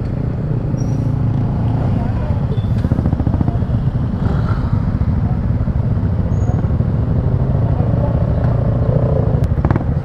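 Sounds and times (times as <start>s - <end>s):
motorcycle engines idling: 0.0s - 10.0s.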